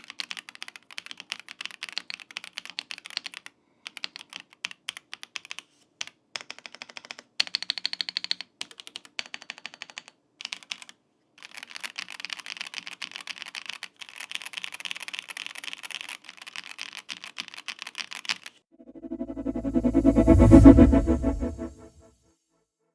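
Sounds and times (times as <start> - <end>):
typing on mechanical keyboard: 0.0 - 18.6.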